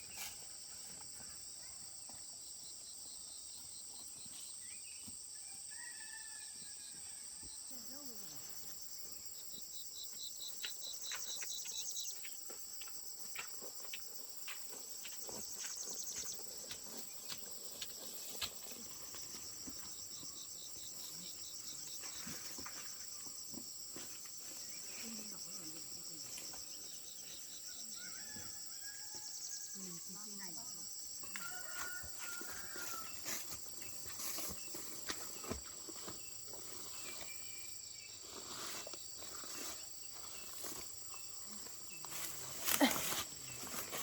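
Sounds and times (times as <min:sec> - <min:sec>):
insects trilling: 0:00.0 - 0:44.0.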